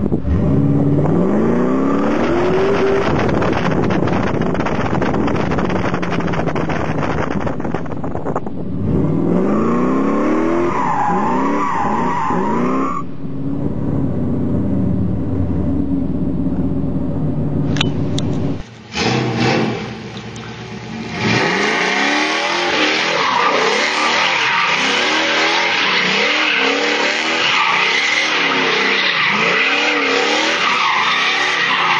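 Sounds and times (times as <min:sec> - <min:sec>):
car engine revving: 0:00.1 - 0:08.0, 0:08.8 - 0:31.9.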